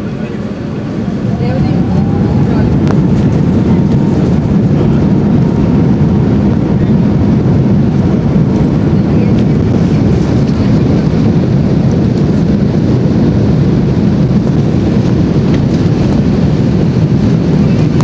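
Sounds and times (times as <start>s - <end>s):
jet engines deep rumble: 0.0s - 18.0s
rushing air: 0.0s - 18.0s.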